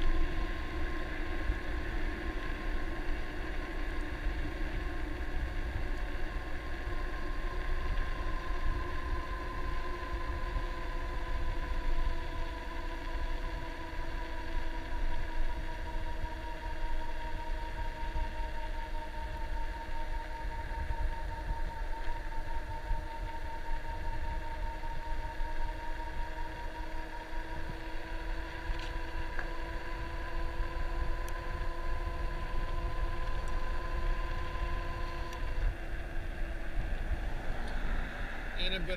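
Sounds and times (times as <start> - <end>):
electric motor whining: 0.0 - 38.9
wind rumble on microphone: 0.0 - 38.9.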